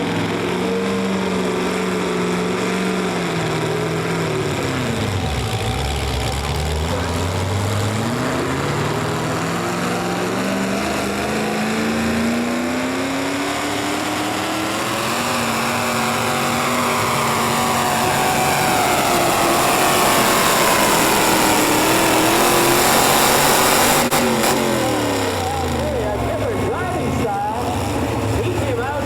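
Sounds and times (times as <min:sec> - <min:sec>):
vehicle engine working hard: 0:00.0 - 0:29.0.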